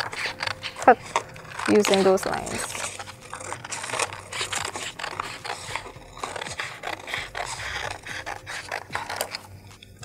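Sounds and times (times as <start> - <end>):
paper sheets rustling: 0.0 - 9.7
scissors snipping through paper: 0.0 - 9.9.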